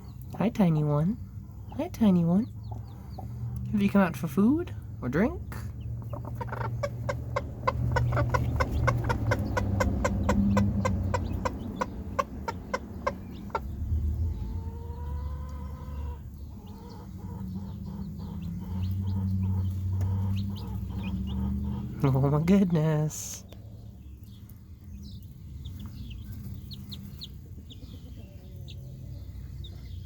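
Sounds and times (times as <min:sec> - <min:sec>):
chicks peeping: 0:00.0 - 0:30.0
hen clucking: 0:00.0 - 0:30.0.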